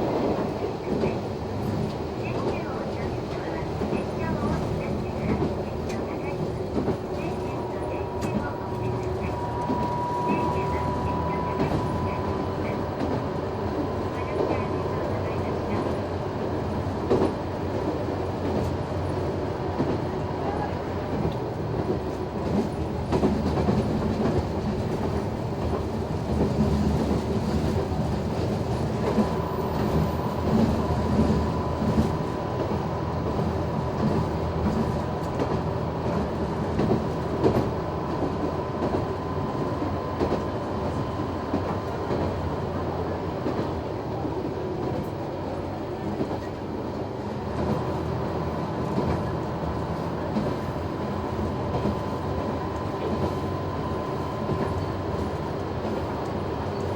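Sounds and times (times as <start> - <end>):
railcar running drone: 0.0 - 56.9.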